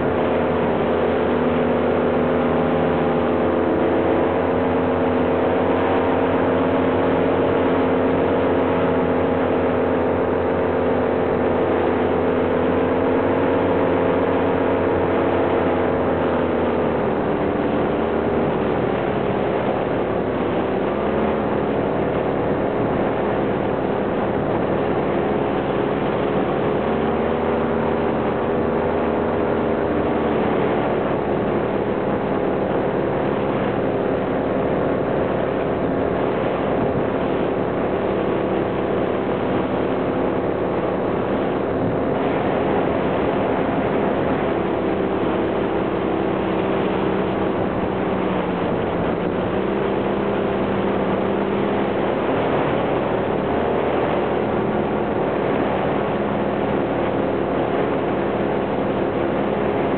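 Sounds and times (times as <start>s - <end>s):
aircraft motor and propeller drone: 0.0s - 59.9s
wind rushing on microphone: 0.0s - 59.9s.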